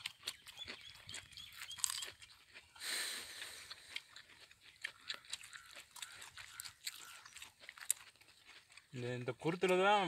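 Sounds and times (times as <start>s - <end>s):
crunchy bite: 0.0s - 8.9s.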